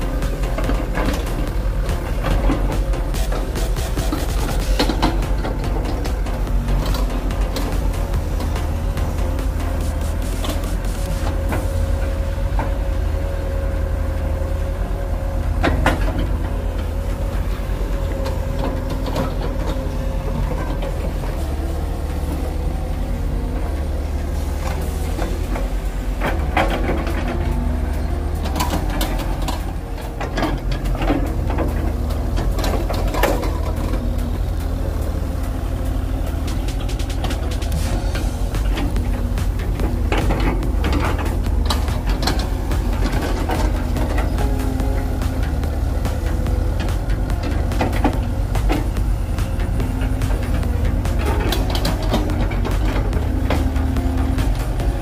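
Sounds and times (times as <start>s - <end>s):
diesel engines running: 0.0s - 55.0s
excavator buckets clanking: 0.0s - 55.0s.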